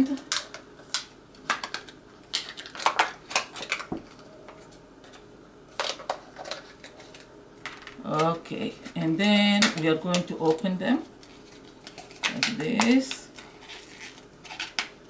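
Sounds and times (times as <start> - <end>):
plastic crackling: 0.1 - 15.0.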